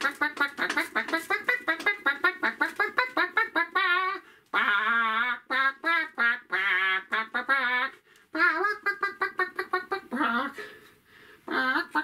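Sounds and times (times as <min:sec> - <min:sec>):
person imitating chicken squawks: 0:00.0 - 0:10.8, 0:11.5 - 0:12.0.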